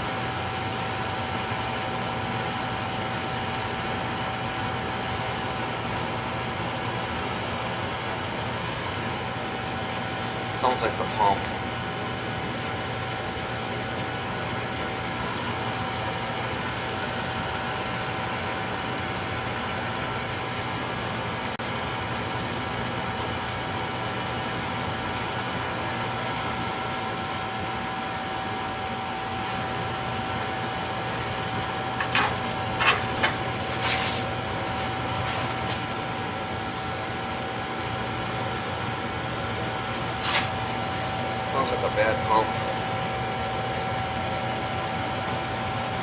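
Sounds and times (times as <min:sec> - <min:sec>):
steady whine: 0:00.0 - 0:22.3, 0:23.1 - 0:45.9
oil burner rushing: 0:00.0 - 0:46.0.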